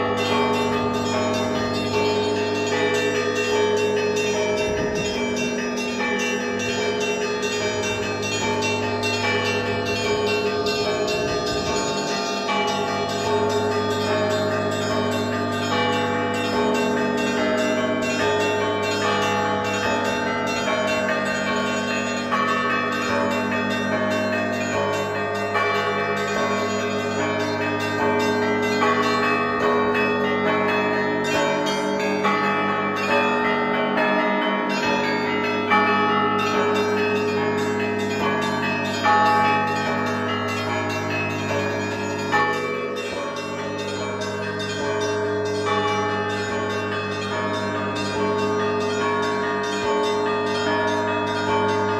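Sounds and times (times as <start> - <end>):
large bell humming: 0.0 - 51.9
small bells struck: 0.0 - 51.9.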